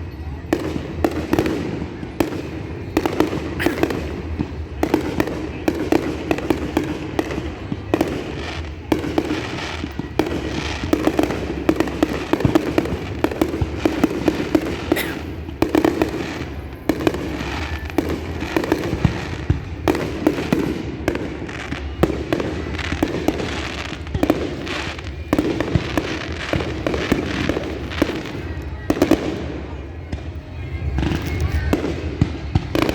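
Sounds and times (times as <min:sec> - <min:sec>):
fireworks bangs and crackling: 0:00.0 - 0:32.9.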